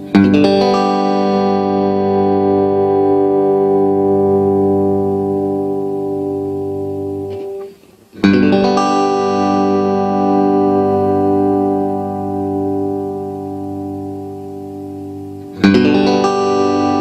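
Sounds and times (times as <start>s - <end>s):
electric guitar chords: 0.0s - 17.0s.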